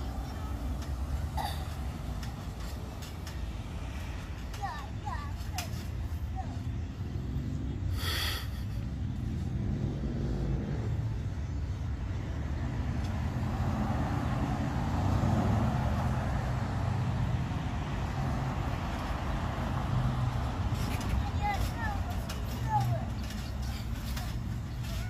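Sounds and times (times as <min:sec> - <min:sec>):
road traffic rumble: 0:00.0 - 0:25.0
vehicle passing: 0:00.0 - 0:25.0.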